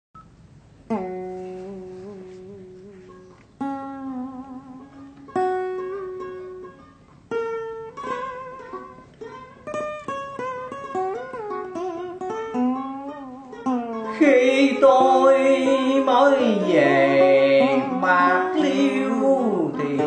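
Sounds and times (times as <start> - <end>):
plucked string instrument melody: 0.8 - 20.0.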